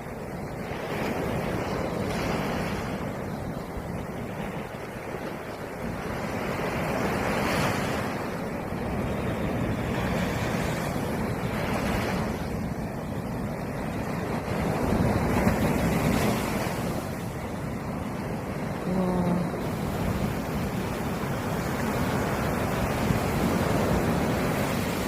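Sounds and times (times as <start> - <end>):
sea waves breaking on shore: 0.0 - 25.0.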